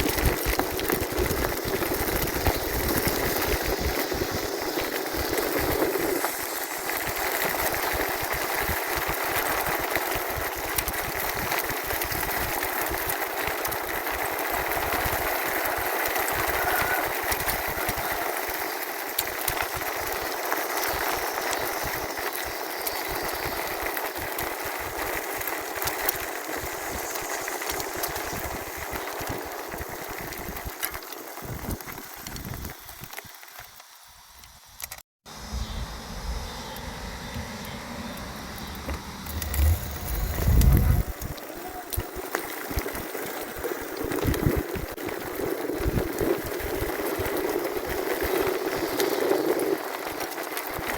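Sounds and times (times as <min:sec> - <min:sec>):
wind and tyre rush: 0:00.0 - 0:33.4, 0:35.3 - 0:50.9.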